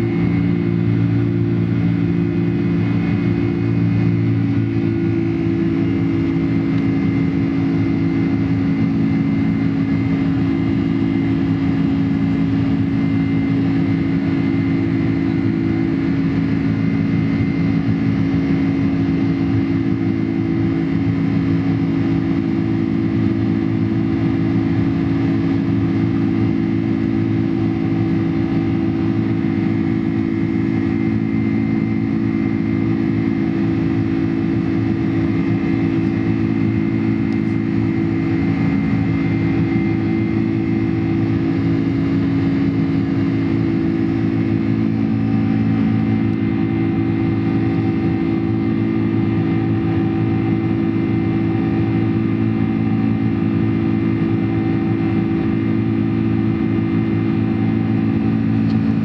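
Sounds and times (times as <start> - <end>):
jet engines and airflow in cabin: 0.0 - 59.0.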